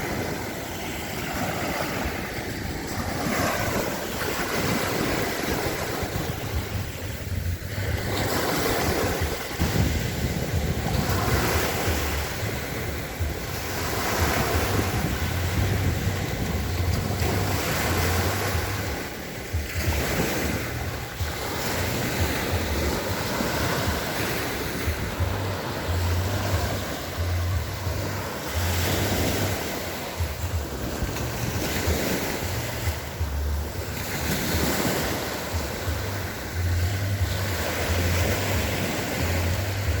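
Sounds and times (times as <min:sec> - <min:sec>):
waves washing in and out: 0:00.0 - 0:40.0
wind rumbling on microphone: 0:00.0 - 0:40.0.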